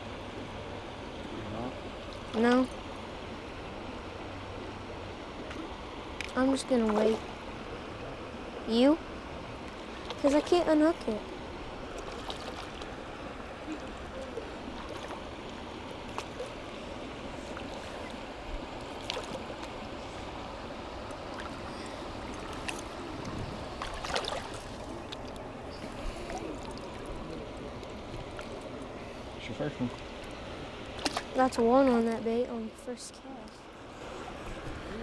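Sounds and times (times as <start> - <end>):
flowing stream water: 0.0 - 35.0.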